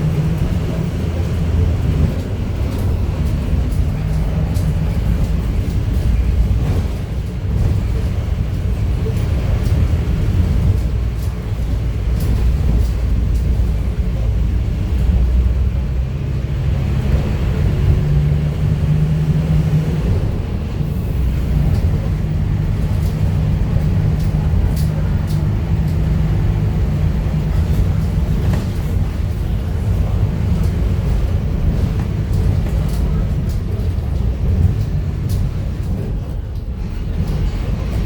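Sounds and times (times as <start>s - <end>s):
bus diesel engine running: 0.0s - 38.0s
light rattles and clicks: 0.1s - 15.7s, 20.0s - 38.0s.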